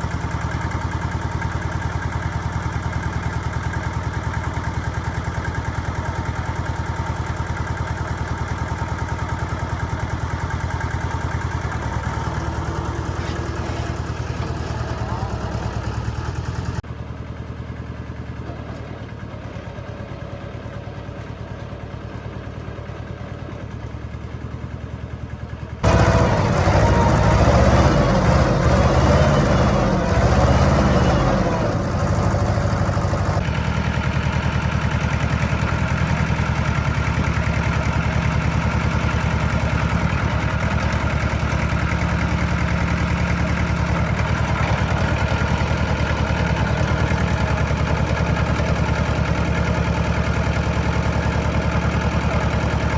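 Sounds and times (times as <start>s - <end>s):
engine idling and revving: 0.0s - 52.9s.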